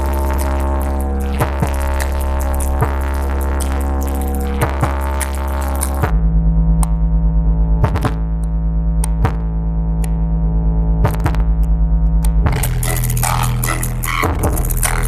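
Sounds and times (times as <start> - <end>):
electronic music with pulsing deep bass: 0.0 - 15.0
steady tones: 0.0 - 15.0.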